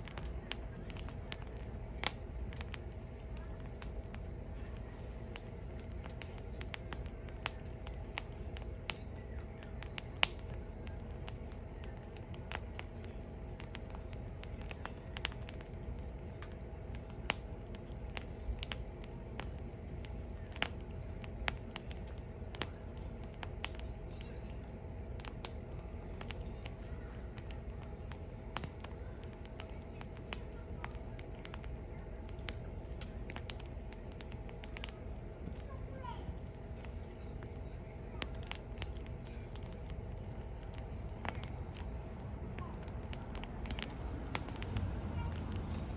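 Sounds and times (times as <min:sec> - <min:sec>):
firewood crackling and popping: 0:00.0 - 0:45.9
low fire rumble: 0:00.0 - 0:45.9.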